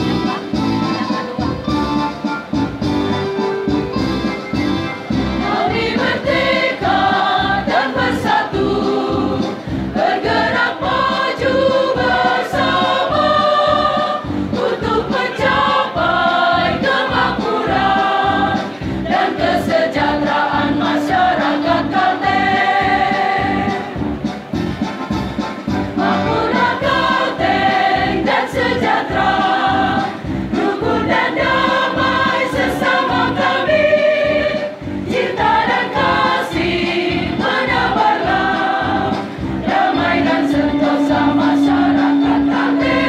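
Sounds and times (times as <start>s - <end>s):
accompaniment with steady beat: 0.0s - 43.0s
women's choir singing: 5.4s - 24.0s, 26.0s - 43.0s.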